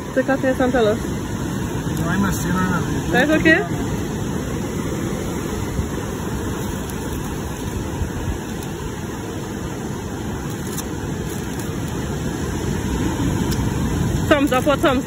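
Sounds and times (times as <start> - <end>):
low rumbling outdoor noise: 0.0 - 15.0.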